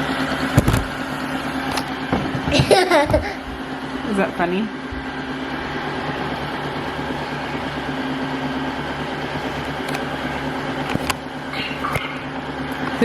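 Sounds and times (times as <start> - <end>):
vacuum mop motor humming: 0.0 - 13.0.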